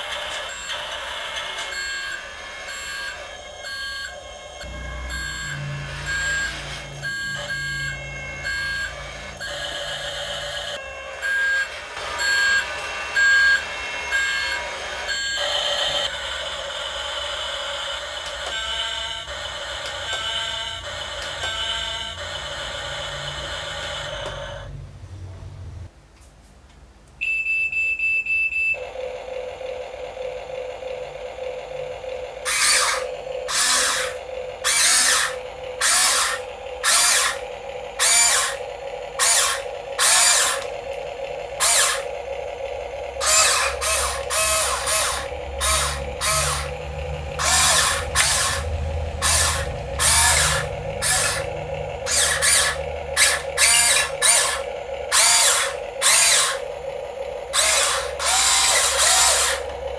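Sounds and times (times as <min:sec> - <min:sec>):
toy electric motor whining: 0:00.0 - 0:24.7, 0:28.8 - 0:59.9.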